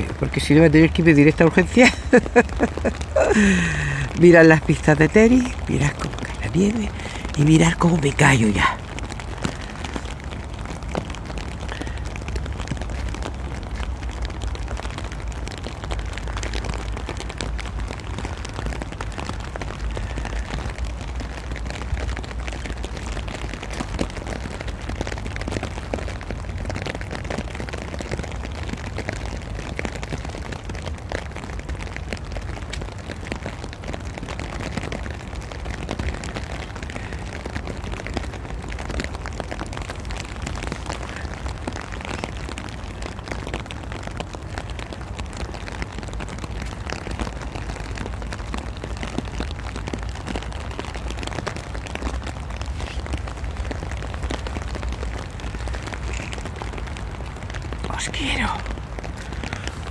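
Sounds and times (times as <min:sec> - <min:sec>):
wet snow falling: 0:00.0 - 0:59.9
wind rumbling on microphone: 0:08.2 - 0:59.9.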